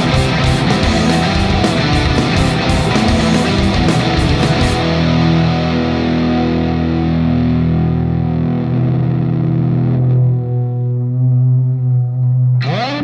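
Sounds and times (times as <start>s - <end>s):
distorted electric guitar chords: 0.0s - 13.0s.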